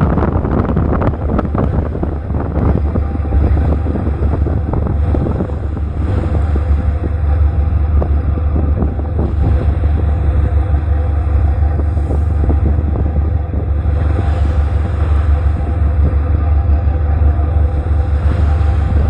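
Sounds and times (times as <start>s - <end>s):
boat engine rumbling: 0.0s - 19.0s
wind buffeting microphone: 0.0s - 19.0s.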